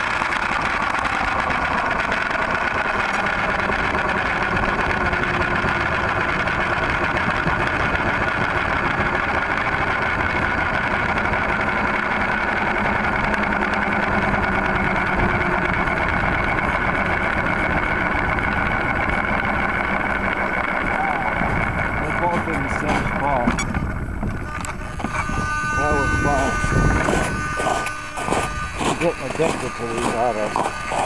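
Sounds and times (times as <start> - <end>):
rc helicopter motor whine: 0.0 - 31.0.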